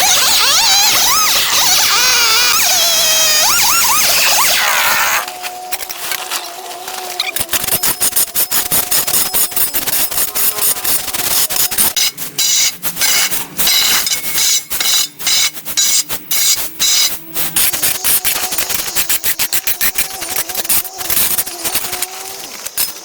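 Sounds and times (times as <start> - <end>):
tools cutting brush and wood: 0.0 - 23.0.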